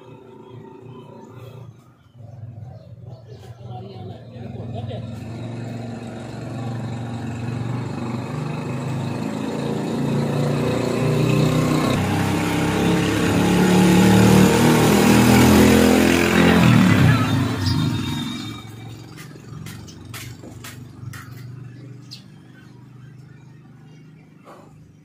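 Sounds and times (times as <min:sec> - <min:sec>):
vehicle engine approaching: 0:00.0 - 0:25.0.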